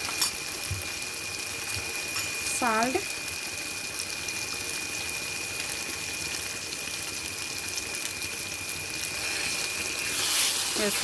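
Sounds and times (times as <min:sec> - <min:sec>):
curry sizzling and bubbling: 0:00.0 - 0:11.0.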